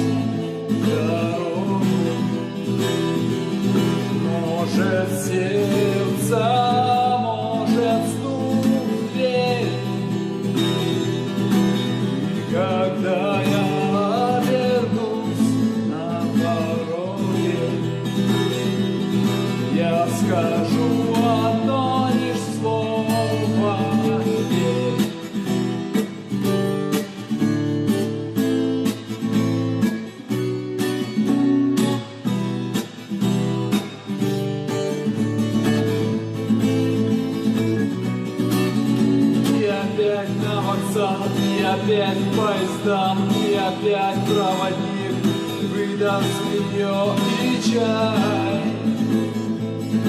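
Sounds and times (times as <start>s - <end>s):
acoustic guitar strumming chords: 0.0s - 50.0s.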